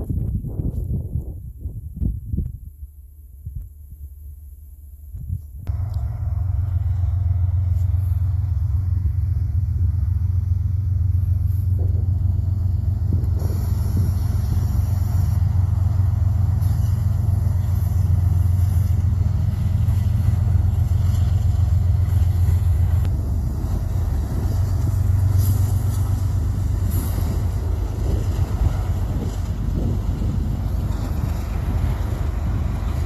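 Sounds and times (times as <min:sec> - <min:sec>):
diesel locomotive engine droning: 0:02.8 - 0:33.0.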